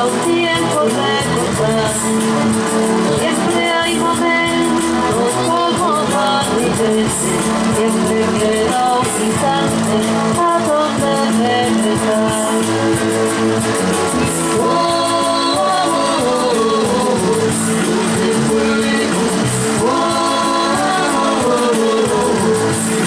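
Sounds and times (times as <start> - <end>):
electric guitar: 0.0 - 23.0
person singing: 0.0 - 23.0.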